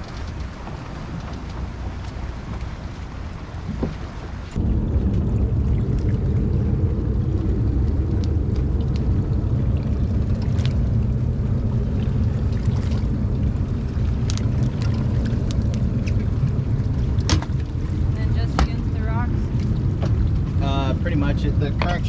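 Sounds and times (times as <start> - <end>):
outboard engine idling: 0.0 - 22.0.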